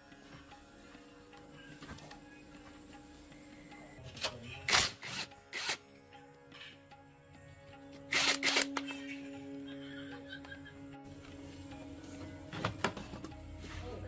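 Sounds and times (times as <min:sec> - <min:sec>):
background music with held tones: 0:00.0 - 0:14.0.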